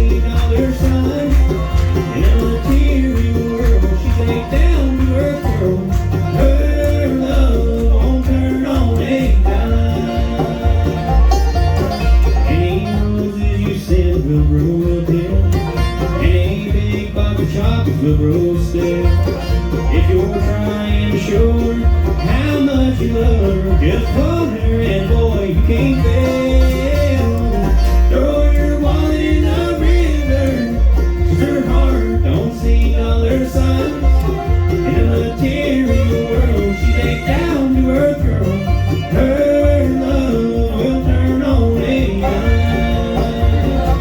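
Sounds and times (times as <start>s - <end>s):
bluegrass band playing: 0.0s - 44.0s.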